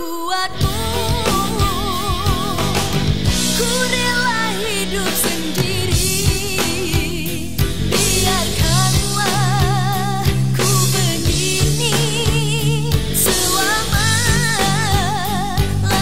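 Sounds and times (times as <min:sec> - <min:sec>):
pop song with vibrato melody: 0:00.0 - 0:16.0
drum beat and bass: 0:00.6 - 0:16.0.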